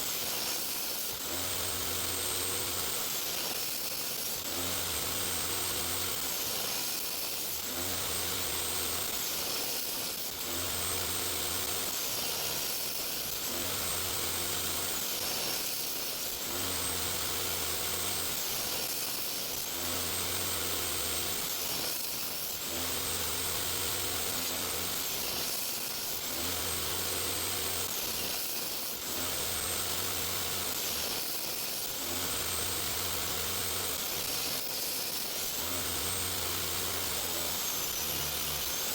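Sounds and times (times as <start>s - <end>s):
woodworking power tool running: 1.2s - 38.9s.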